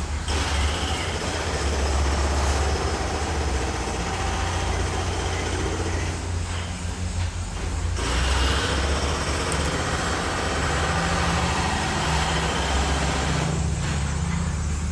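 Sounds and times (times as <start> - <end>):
heavy engine humming: 0.0 - 14.9.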